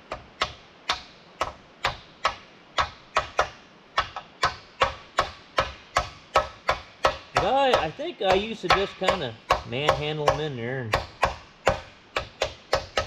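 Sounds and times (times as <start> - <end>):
hammer striking metal bearing: 0.1 - 13.0.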